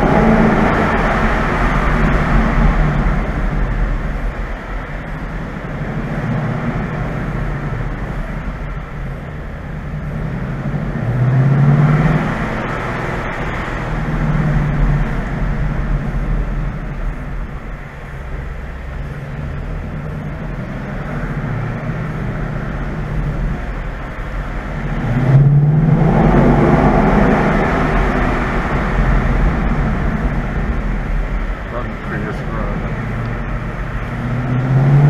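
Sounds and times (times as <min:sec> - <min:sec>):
car exhaust burbling: 0:00.0 - 0:35.0.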